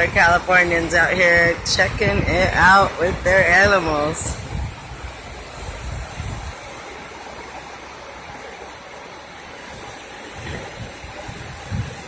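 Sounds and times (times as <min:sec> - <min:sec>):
river rushing: 0:00.0 - 0:12.0
wind rumble on microphone: 0:00.0 - 0:12.0.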